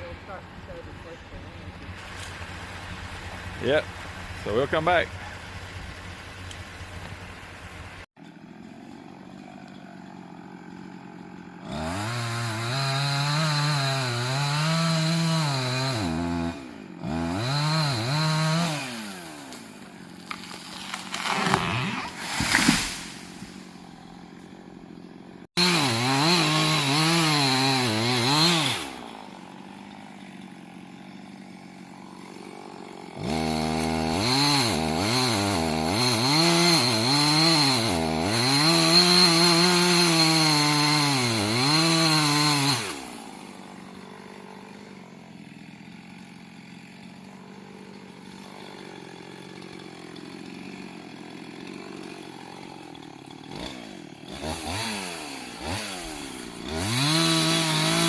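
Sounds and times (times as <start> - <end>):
chainsaw cutting trees: 0.0 - 58.0.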